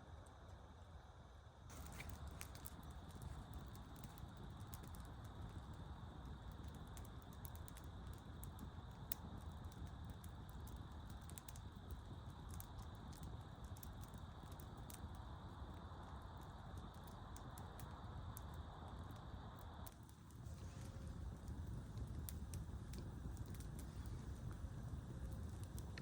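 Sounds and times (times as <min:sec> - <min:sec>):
campfire crackling: 0:01.5 - 0:26.0.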